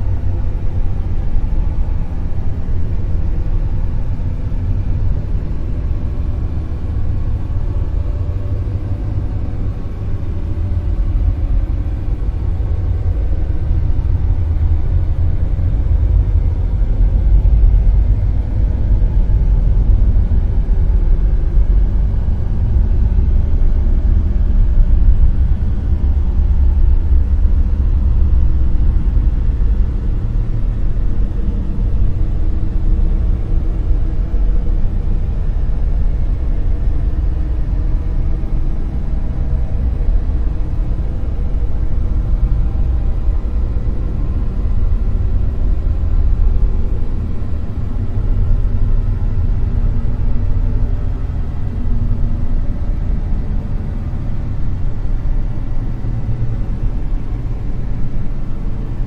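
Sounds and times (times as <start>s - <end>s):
deep rumbling hiss: 0.0s - 59.0s.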